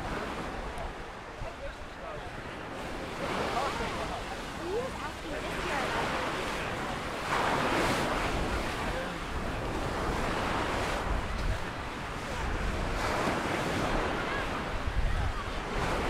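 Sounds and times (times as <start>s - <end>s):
surf breaking on sandy beach: 0.0s - 16.0s
wind rumbling on microphone: 0.0s - 16.0s.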